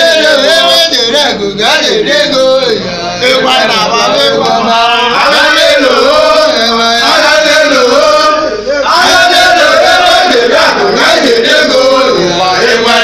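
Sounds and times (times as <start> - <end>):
group chanting and singing: 0.0 - 13.0.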